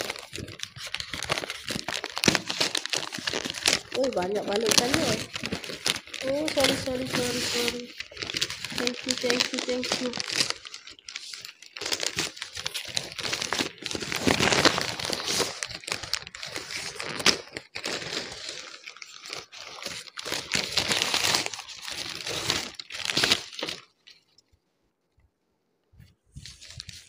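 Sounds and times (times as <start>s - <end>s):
wrapping paper tearing and crinkling: 0.0s - 24.3s, 26.4s - 27.0s.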